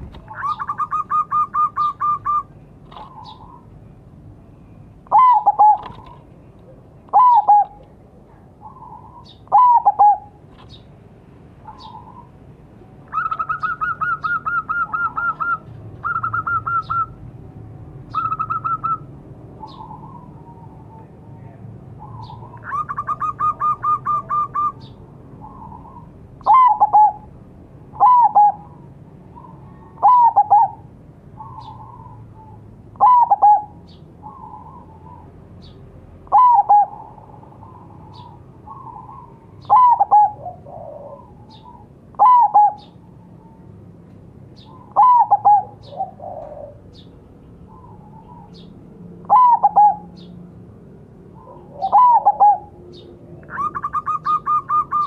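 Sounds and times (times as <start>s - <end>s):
dove cooing: 0.2s - 3.7s, 5.0s - 10.5s, 11.6s - 12.4s, 13.1s - 17.2s, 18.1s - 27.3s, 27.9s - 35.3s, 36.2s - 43.7s, 44.6s - 50.3s, 51.3s - 55.0s.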